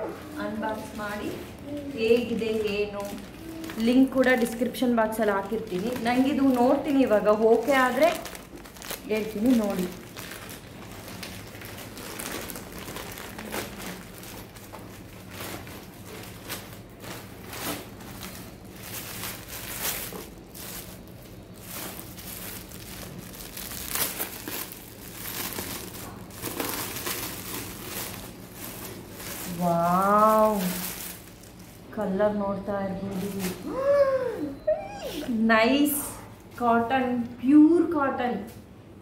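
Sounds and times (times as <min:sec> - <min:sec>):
plastic packaging crinkling: 0:00.0 - 0:34.0
steady low hum: 0:00.0 - 0:39.0.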